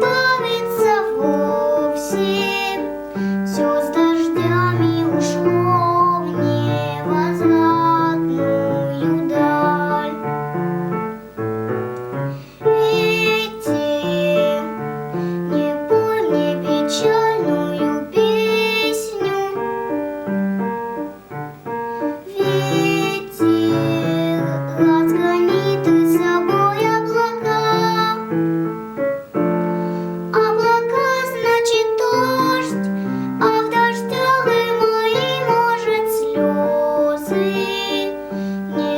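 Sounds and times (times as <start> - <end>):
girl singing slow song: 0.0 - 11.3, 12.1 - 38.9
piano accompaniment: 0.0 - 38.9.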